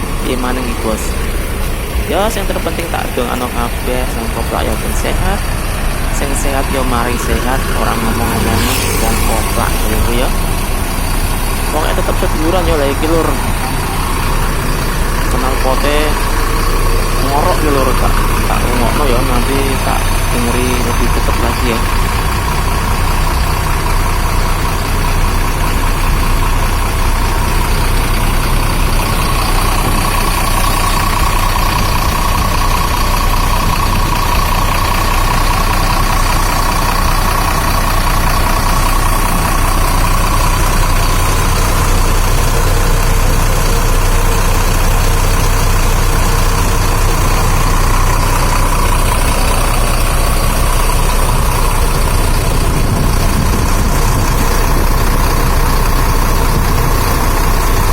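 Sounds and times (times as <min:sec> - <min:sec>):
bus engine idling: 0:00.0 - 0:57.9.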